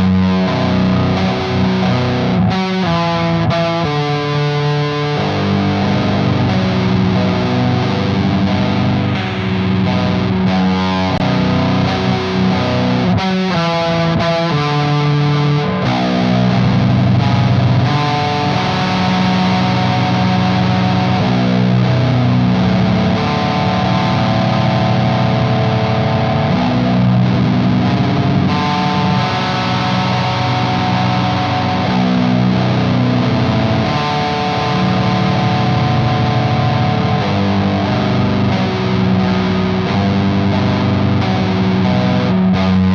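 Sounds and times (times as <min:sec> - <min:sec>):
distorted electric guitar riff: 0:00.0 - 0:42.9.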